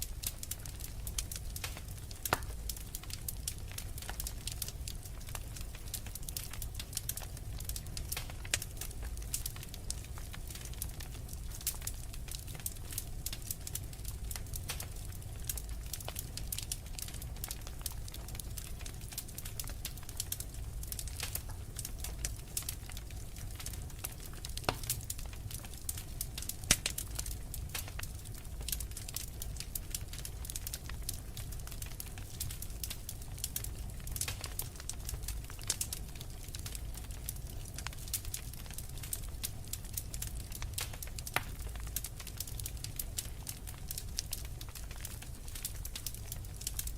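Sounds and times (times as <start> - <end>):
fire crackling: 0.0 - 46.9
fire pops: 0.0 - 46.9.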